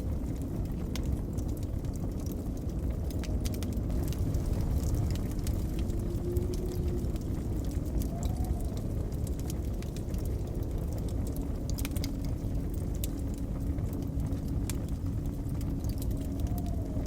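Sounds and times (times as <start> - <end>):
blizzard wind rumble: 0.0 - 17.0
wood fire crackling and popping: 0.0 - 17.0.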